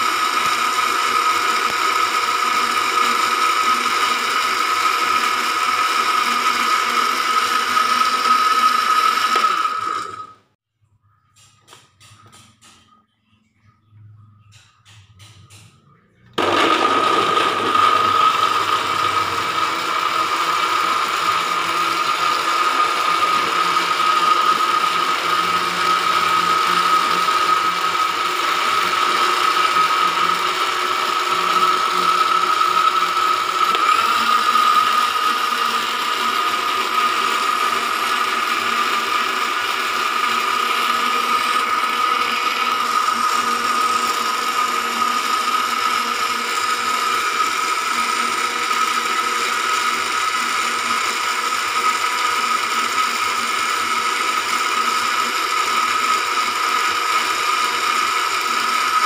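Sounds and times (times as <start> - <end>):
blender motor whining and grinding: 0.0 - 10.6, 16.2 - 59.0.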